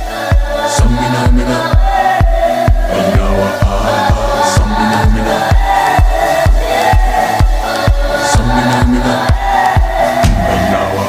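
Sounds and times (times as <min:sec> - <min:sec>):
electronic dance music: 0:00.0 - 0:11.0
steady kick drum: 0:00.0 - 0:11.0.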